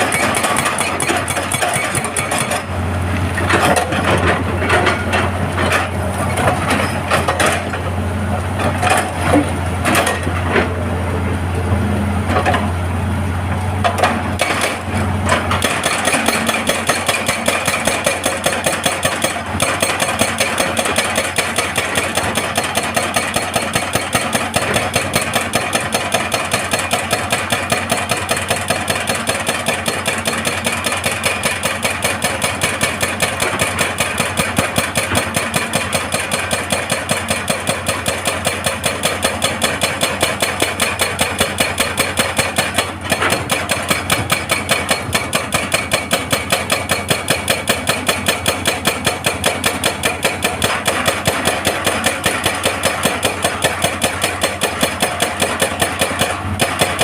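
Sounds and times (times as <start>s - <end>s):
hydraulic breaker hammering rock: 0.0s - 7.8s, 13.8s - 57.0s
excavator engine: 0.0s - 57.0s.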